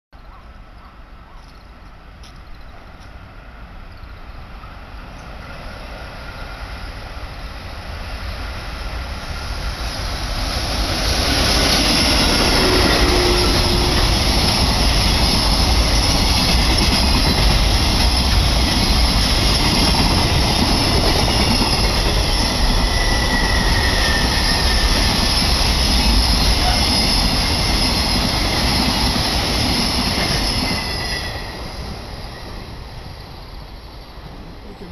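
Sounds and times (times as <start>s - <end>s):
freight train rumbling past: 1.9s - 34.9s.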